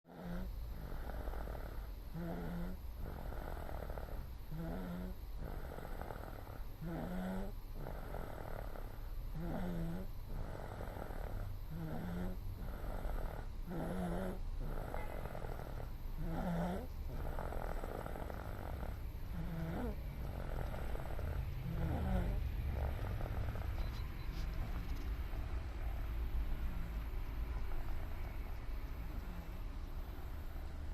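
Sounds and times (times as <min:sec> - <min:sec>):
child snoring: 0:00.1 - 0:24.0, 0:26.4 - 0:27.0, 0:29.0 - 0:29.6.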